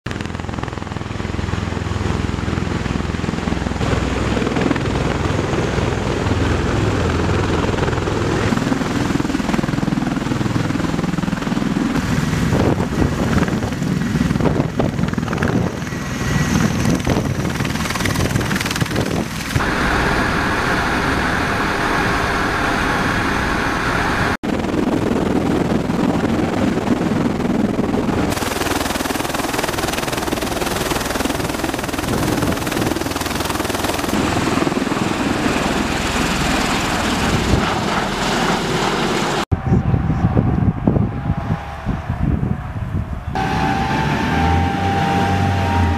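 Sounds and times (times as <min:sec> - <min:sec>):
wind buffeting microphone: 0:00.1 - 0:22.2, 0:24.4 - 0:45.9
aircraft rotor and engine noise: 0:00.1 - 0:45.9.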